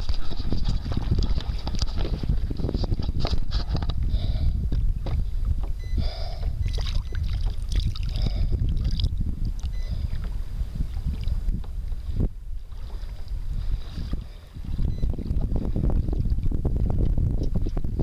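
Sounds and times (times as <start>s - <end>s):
water sloshing against kayak: 0.0s - 17.8s
wind buffeting microphone: 0.0s - 18.0s.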